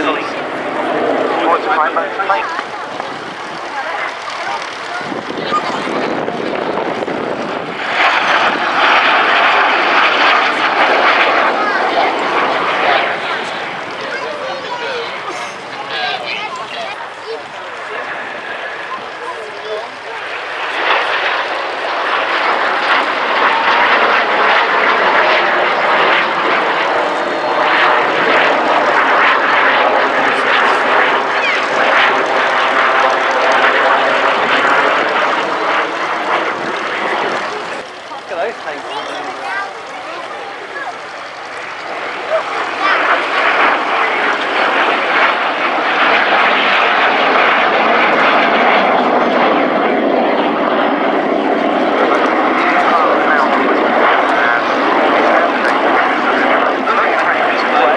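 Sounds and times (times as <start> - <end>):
jet aircraft flying overhead: 0.0 - 57.9.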